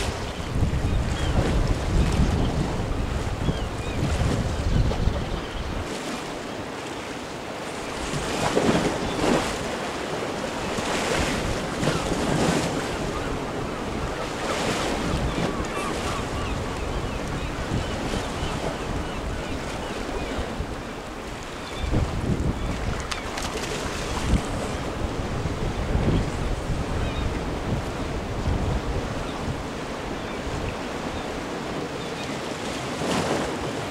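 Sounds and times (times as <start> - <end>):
surf washing against rocks: 0.0 - 5.1, 5.8 - 33.9
wind buffeting microphone: 0.0 - 6.0, 7.9 - 31.7.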